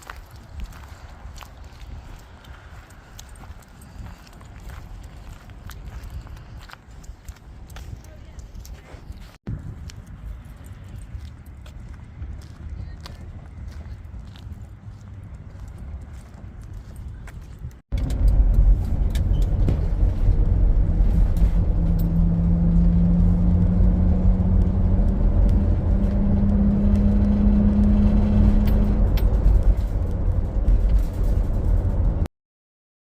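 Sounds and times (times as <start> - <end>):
vehicle engine rumble: 0.0 - 32.3.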